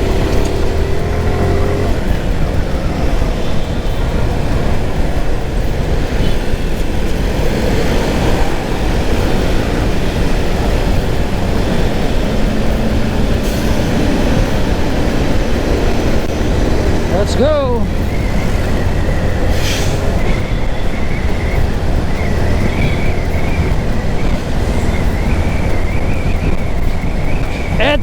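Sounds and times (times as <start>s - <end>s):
motorcycle engine: 0.0s - 28.0s
surrounding traffic: 0.0s - 28.0s
wind rushing on microphone: 0.0s - 28.0s.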